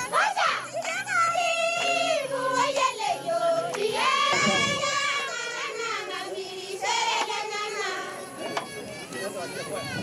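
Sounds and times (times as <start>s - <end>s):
women singing together: 0.0s - 8.5s.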